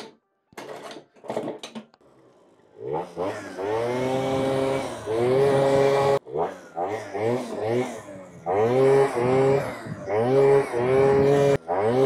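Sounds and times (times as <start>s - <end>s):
scooter engine revving: 2.1s - 12.0s.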